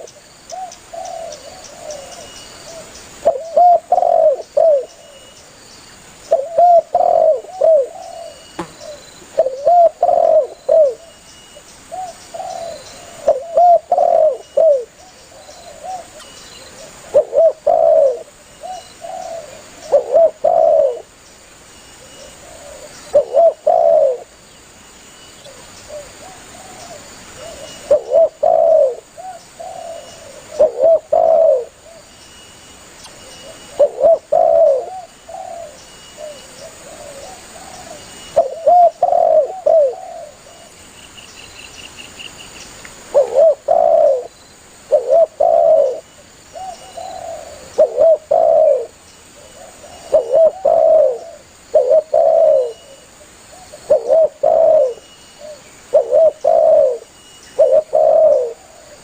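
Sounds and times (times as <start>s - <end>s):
dove cooing: 0.0s - 5.2s, 6.3s - 11.2s, 11.9s - 21.1s, 22.0s - 24.3s, 25.4s - 32.1s, 33.4s - 40.8s, 43.1s - 57.0s, 57.6s - 59.0s.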